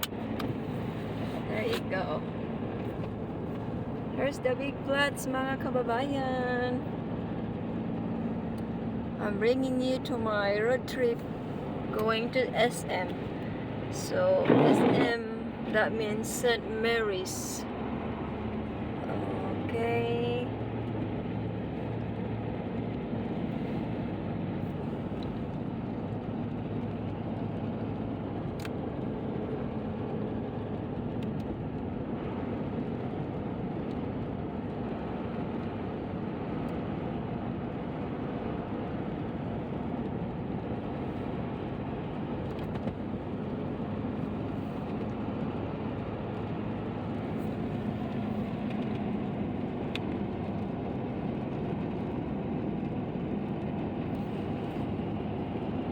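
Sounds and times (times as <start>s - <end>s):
car tyre and engine noise: 0.0s - 55.9s.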